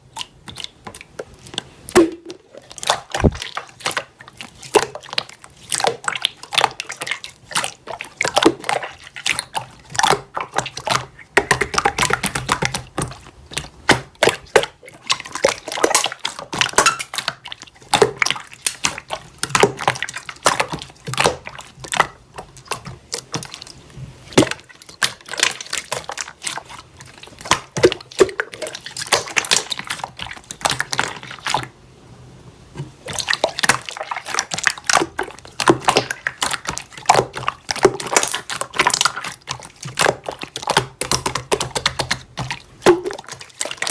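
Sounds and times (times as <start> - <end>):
slime squished by hand: 0.0 - 31.7, 32.8 - 43.9.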